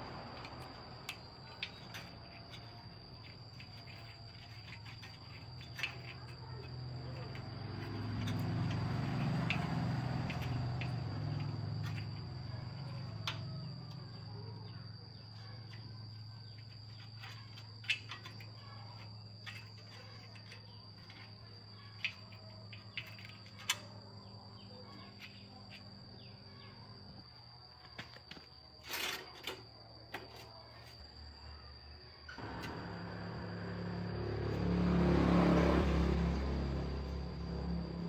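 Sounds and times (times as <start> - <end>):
high insect trill: 0.0 - 38.0.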